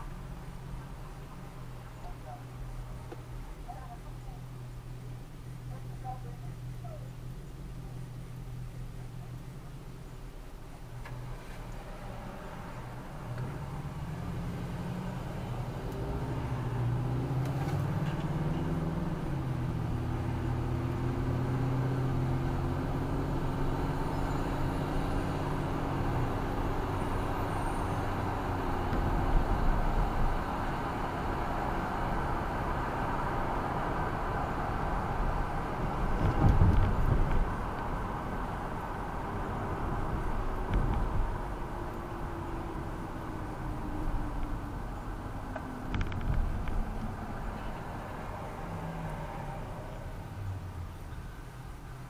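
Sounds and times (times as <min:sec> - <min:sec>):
tyre and road noise: 0:00.0 - 0:52.0
car engine climbing in pitch: 0:07.0 - 0:51.9.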